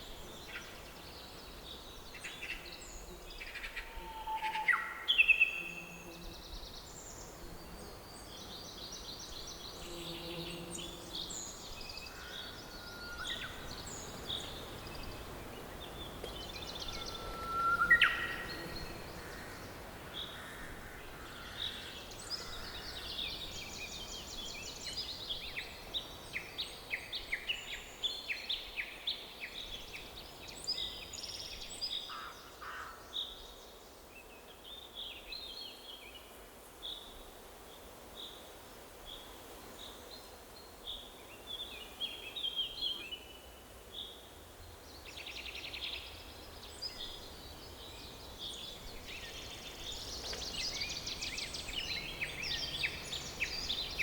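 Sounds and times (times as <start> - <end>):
songbirds chirping and trilling: 0.0 - 36.3, 39.9 - 54.0
faint forest background hiss: 0.0 - 54.0.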